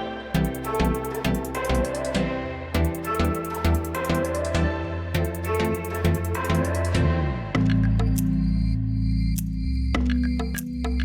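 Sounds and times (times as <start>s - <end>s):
electronic instrumental music: 0.0s - 11.0s.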